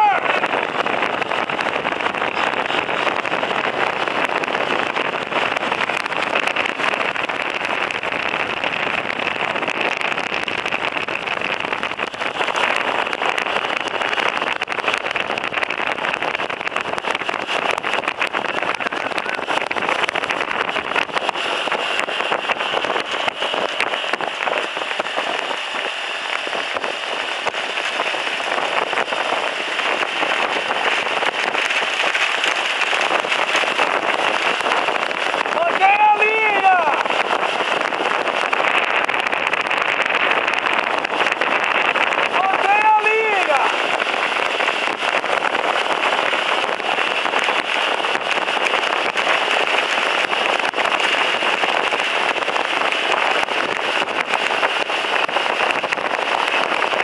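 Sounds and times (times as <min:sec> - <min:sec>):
vehicle driving on dirt track: 0:00.0 - 0:57.0.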